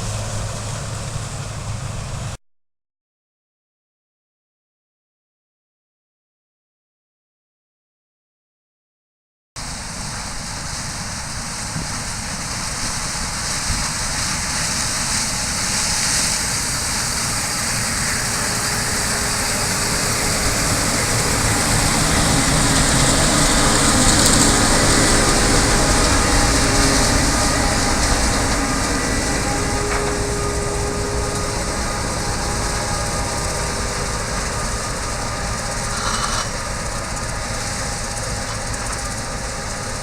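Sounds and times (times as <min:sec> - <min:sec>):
harvesting machinery running: 0:00.0 - 0:02.4, 0:09.6 - 0:40.0.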